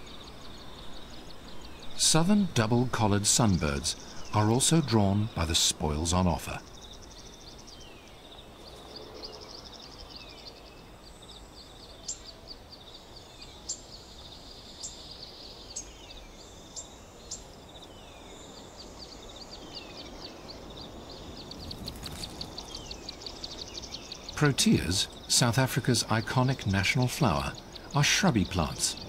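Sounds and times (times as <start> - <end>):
background hiss: 0.0 - 29.0
bird trill: 0.0 - 29.0
small birds chirping: 0.0 - 29.0.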